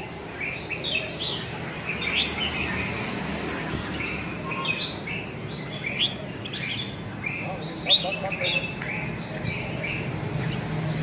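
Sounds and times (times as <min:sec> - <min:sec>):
bird chirping calls: 0:00.0 - 0:11.0.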